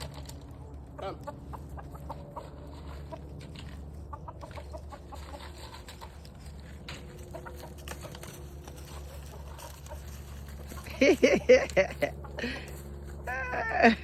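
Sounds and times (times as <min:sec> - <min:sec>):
chickens clucking: 0:00.0 - 0:14.0
steady low hum: 0:00.0 - 0:14.0.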